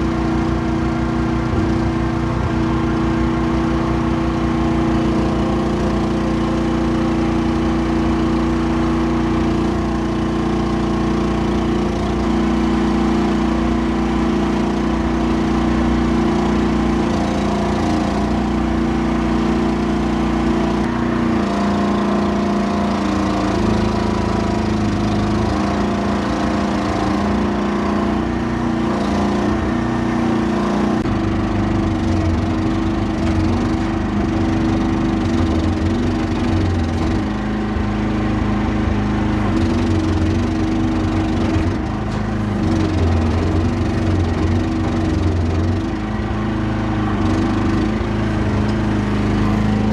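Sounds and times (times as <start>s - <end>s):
excavator engine running: 0.0s - 49.9s.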